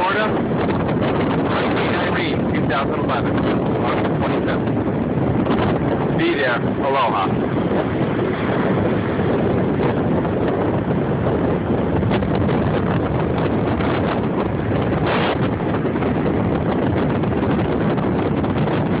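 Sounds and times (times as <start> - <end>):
microphone crackles: 0.0 - 19.0
strong wind on microphone: 0.0 - 19.0.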